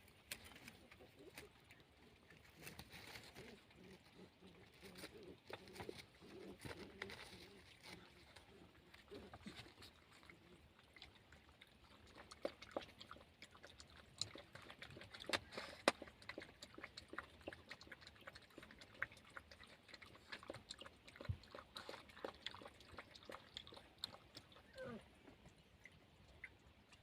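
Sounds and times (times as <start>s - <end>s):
animal chewing and crunching: 0.0s - 27.0s.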